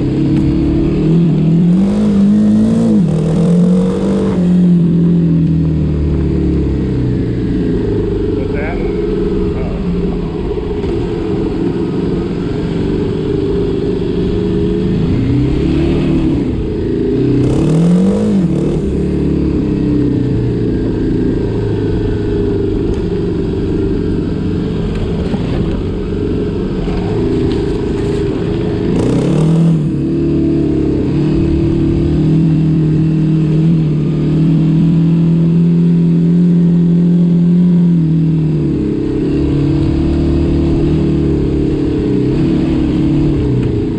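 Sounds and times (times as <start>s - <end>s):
vehicle engine accelerating: 0.0s - 43.9s.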